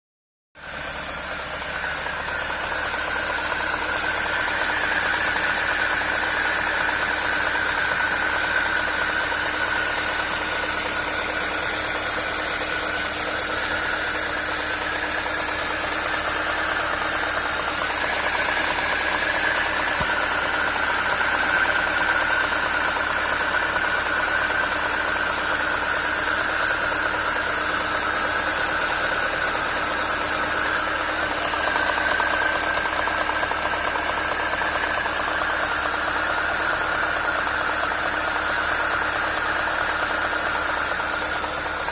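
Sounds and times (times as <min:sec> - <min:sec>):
engine running with knocking: 0:00.6 - 0:41.9.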